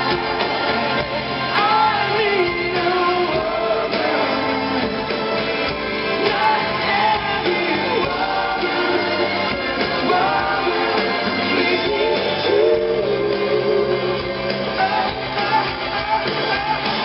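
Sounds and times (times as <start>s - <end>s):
live pop-rock band playing: 0.0s - 17.0s
person singing: 0.0s - 17.0s.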